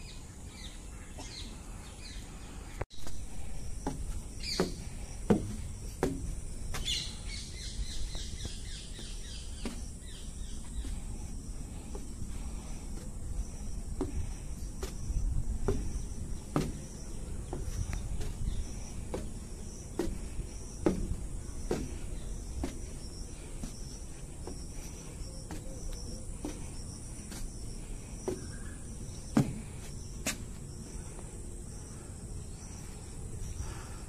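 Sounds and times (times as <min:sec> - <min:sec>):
insects chirping: 0:00.0 - 0:34.0
footsteps on wooden stairs: 0:02.9 - 0:31.2.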